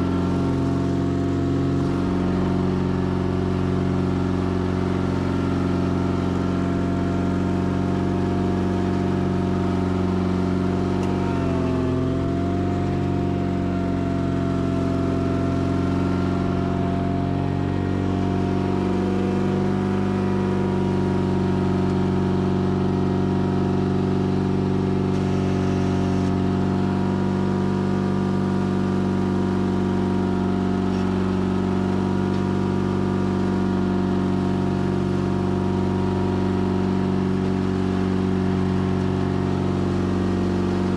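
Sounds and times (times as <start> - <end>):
plow cutting dirt: 0.0 - 40.9
tractor engine running: 0.0 - 40.9.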